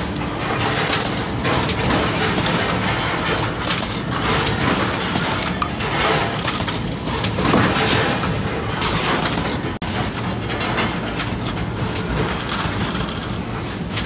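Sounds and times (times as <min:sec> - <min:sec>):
mechanical clatter: 0:00.3 - 0:14.0.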